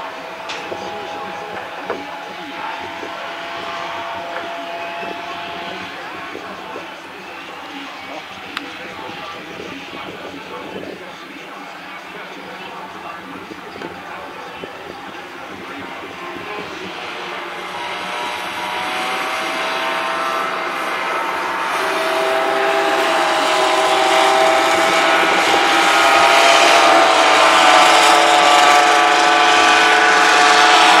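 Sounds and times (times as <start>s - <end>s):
kart engine whining: 0.0s - 31.0s.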